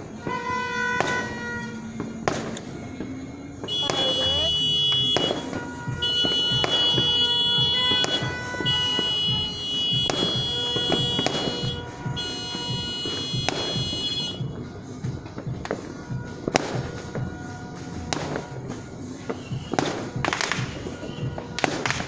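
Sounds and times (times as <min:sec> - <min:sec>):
fireworks bursting: 0:00.0 - 0:22.0
music: 0:00.0 - 0:22.0.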